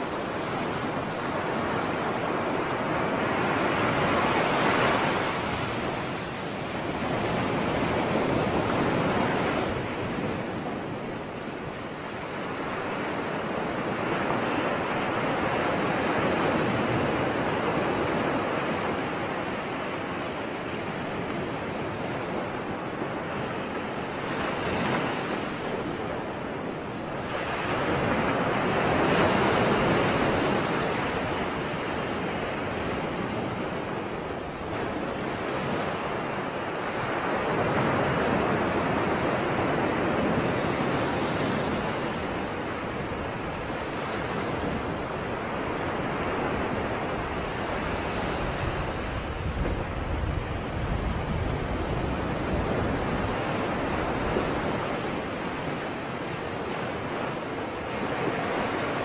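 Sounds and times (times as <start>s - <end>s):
waves washing in: 0.0s - 59.0s.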